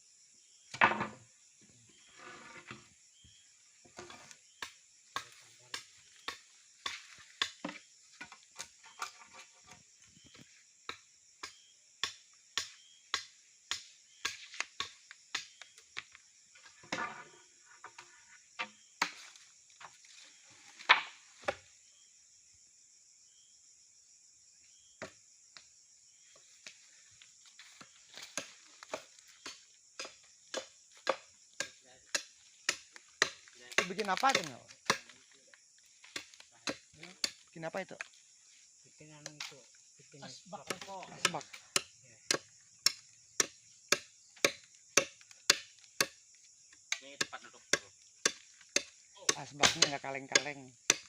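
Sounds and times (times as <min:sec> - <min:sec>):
high insect buzz: 0:00.0 - 0:51.0.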